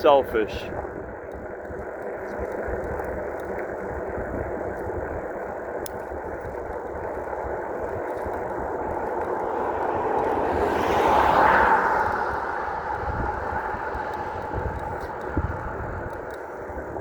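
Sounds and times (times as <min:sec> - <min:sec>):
road noise: 0:00.0 - 0:17.0
wind rushing on microphone: 0:00.0 - 0:17.0.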